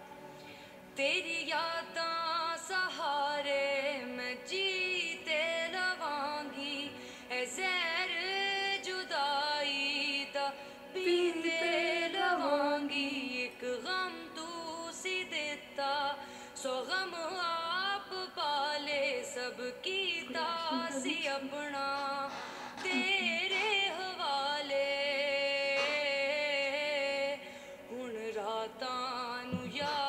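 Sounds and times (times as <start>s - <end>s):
woman singing: 1.0s - 30.0s.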